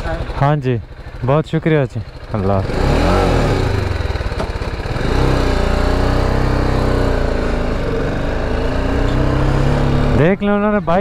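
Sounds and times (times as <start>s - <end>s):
motorcycle engine pulling away: 0.0s - 10.7s.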